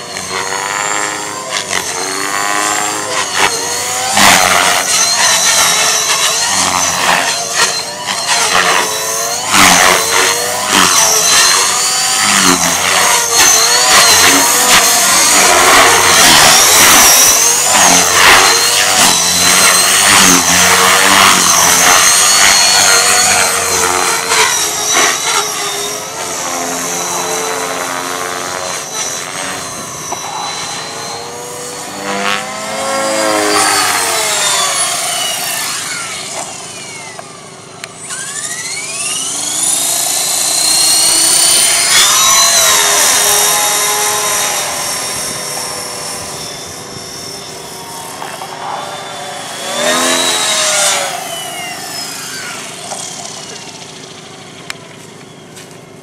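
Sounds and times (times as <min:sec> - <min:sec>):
rc helicopter whining: 0:00.0 - 0:56.0.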